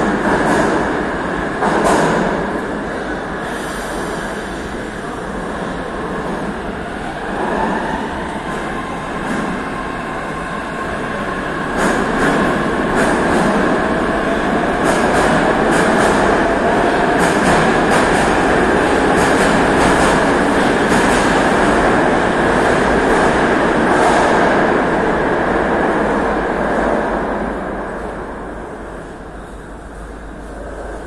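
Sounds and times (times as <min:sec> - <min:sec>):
train rolling rumble: 0:00.0 - 0:31.0.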